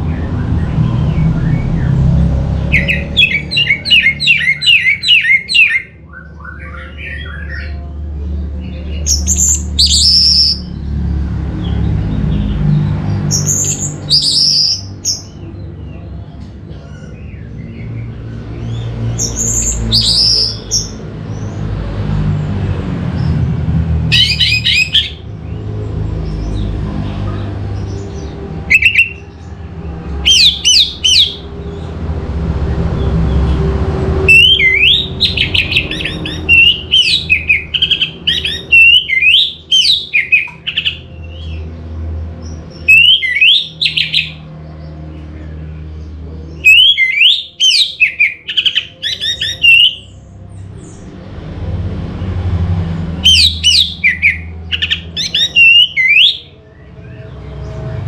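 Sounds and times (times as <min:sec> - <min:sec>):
thrush singing: 0:00.0 - 0:58.0.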